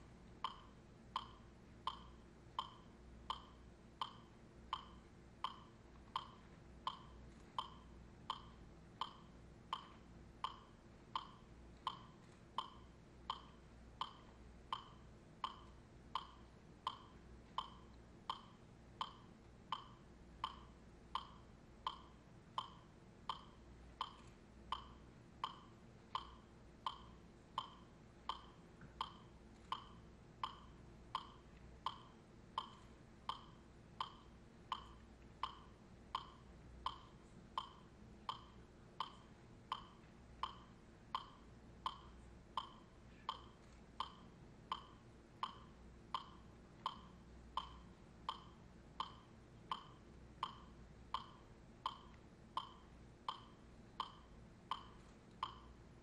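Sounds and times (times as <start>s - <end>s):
faint hum: 0.0s - 56.0s
metronome ticking: 0.0s - 56.0s.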